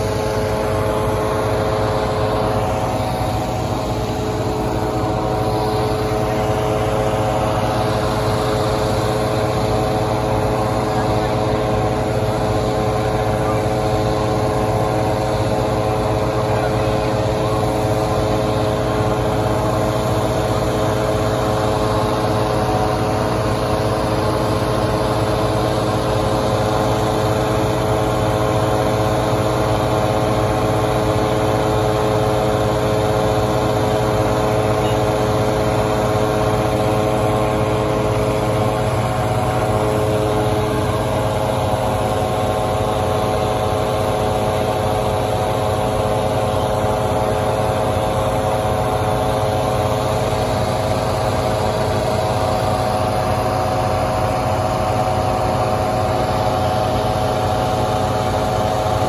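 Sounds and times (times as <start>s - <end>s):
inflator fan running steadily: 0.0s - 59.0s.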